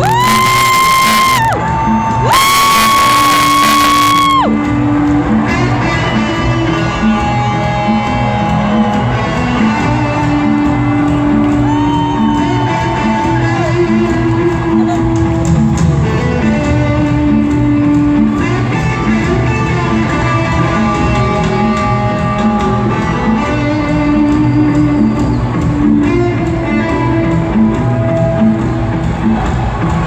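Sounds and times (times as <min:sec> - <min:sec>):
electric guitars: 0:00.0 - 0:30.0
live rock band playing: 0:00.0 - 0:30.0.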